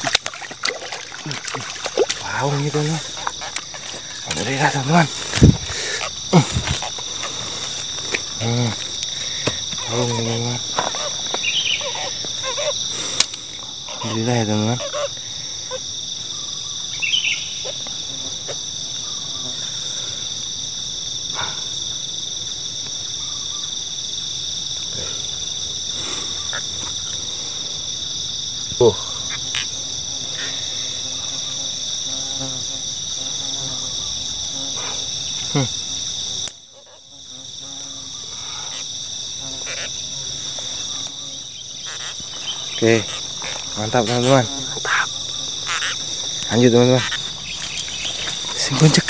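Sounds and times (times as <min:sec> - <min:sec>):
insects calling: 0:00.0 - 0:49.0.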